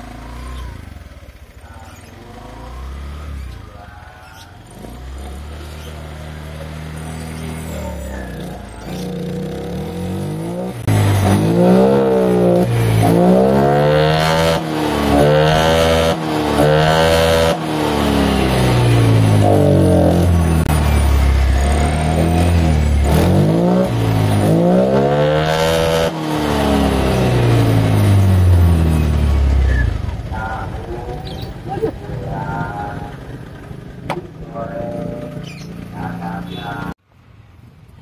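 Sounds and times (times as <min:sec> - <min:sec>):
scooter engine revving: 0:00.0 - 0:37.0.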